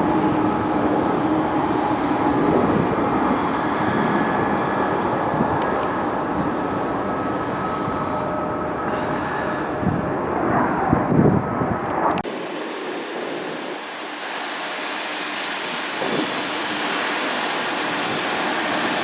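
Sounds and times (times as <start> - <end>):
jet engine noise: 0.0 - 19.0.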